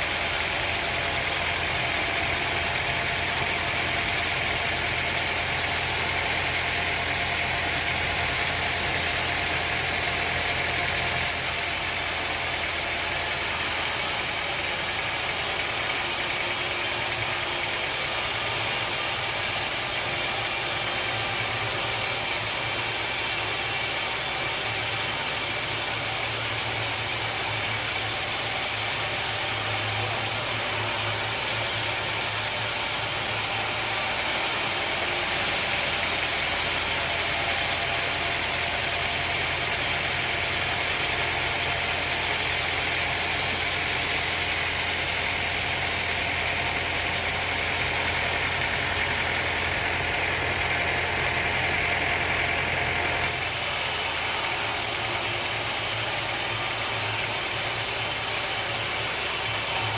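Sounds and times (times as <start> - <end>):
sawmill machinery engine humming: 0.0 - 59.9.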